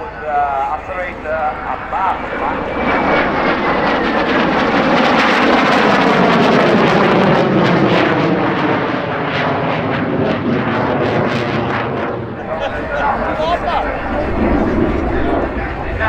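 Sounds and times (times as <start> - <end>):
jet flyby overhead: 0.0 - 16.0.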